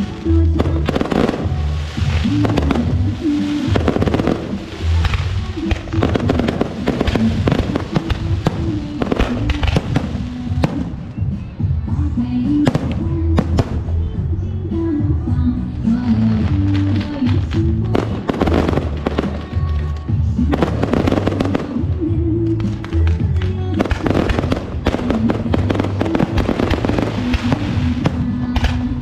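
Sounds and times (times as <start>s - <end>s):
fireworks and firecrackers banging: 0.0s - 14.3s, 14.9s - 29.0s
loud music: 0.0s - 29.0s.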